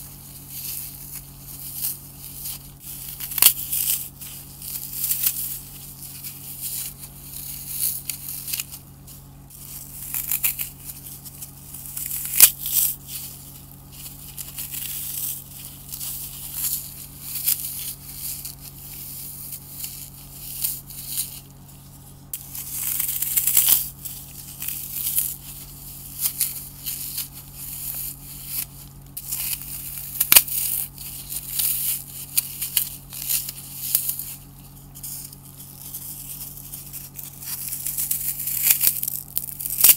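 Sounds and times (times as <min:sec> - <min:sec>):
floral foam crunching: 0:00.0 - 0:39.9.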